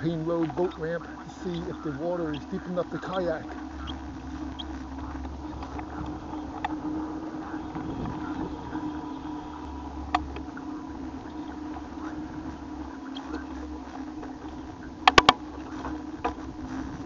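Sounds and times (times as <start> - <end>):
bicycle tyres and wind rumble: 0.0 - 17.0.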